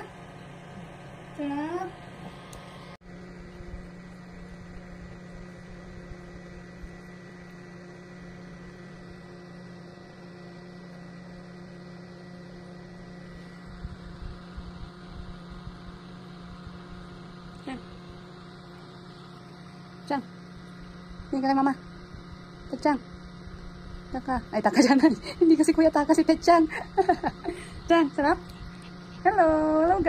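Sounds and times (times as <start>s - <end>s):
desk fans humming: 0.0s - 30.0s.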